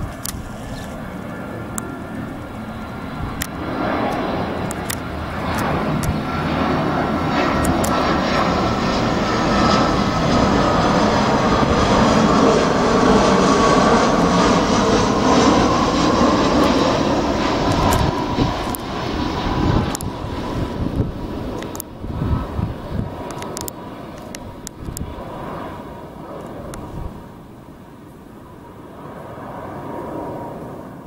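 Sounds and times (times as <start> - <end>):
airliner engines roaring: 0.0 - 31.0.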